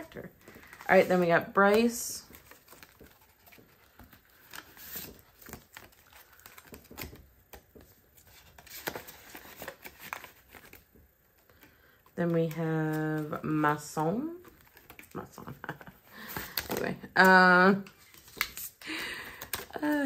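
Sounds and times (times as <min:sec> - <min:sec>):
banknotes and envelopes rustling: 0:00.0 - 0:20.0.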